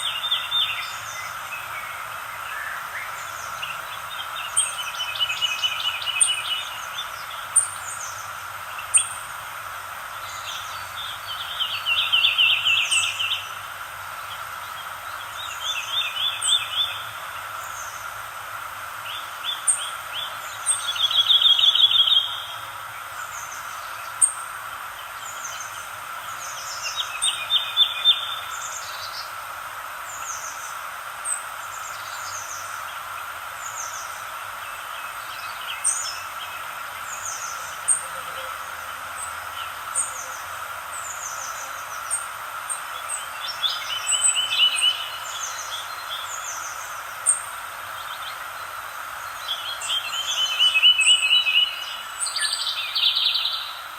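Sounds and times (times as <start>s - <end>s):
songbird trills: 0.0s - 9.4s, 10.2s - 18.1s, 19.0s - 29.4s, 30.0s - 53.9s
steady background hiss: 0.0s - 53.9s.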